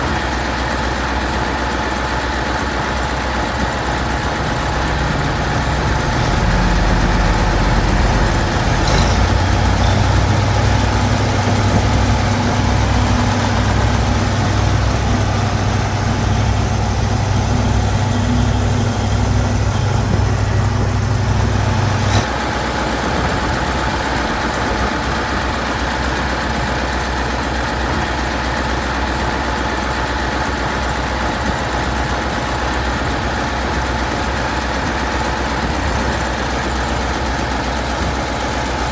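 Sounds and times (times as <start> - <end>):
diesel tractor engine droning: 0.0 - 38.9.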